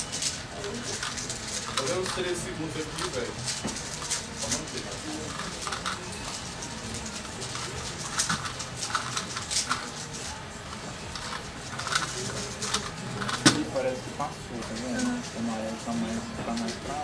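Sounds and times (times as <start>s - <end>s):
crowd hubbub: 0.0s - 17.0s.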